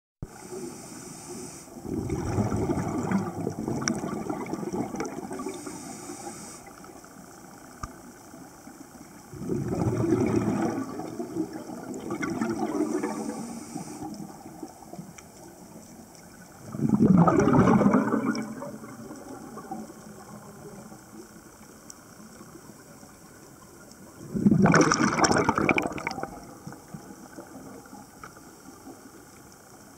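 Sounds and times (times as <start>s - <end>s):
underwater bubbles burbling: 1.8s - 29.9s.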